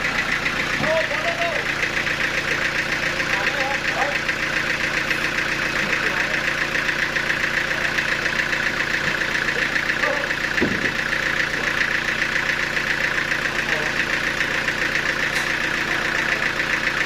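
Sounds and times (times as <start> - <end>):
sawmill machinery drone: 0.0 - 17.0.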